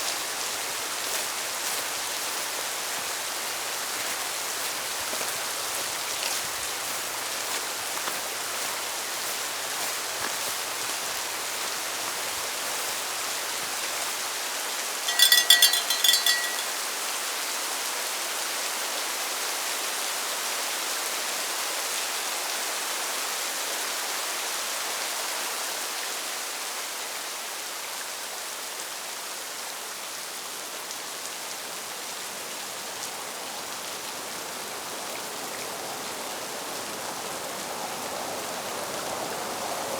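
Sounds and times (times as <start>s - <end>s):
steady rain: 0.0s - 15.0s, 18.2s - 39.9s.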